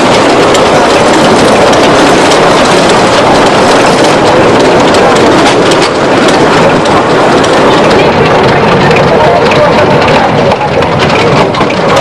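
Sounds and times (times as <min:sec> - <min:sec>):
locomotive rushing noise: 0:00.0 - 0:12.0.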